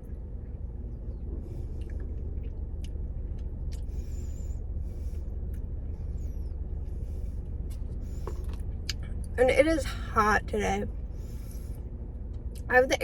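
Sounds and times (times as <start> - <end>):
car engine and blower humming: 0.0 - 13.0.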